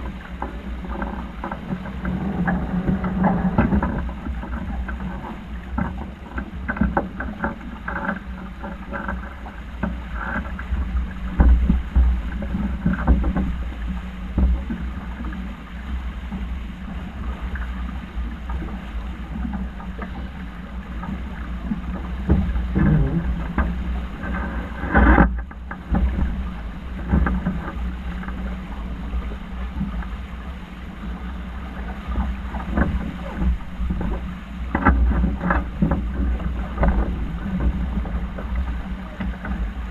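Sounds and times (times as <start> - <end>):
water rushing along hull: 0.0 - 39.9.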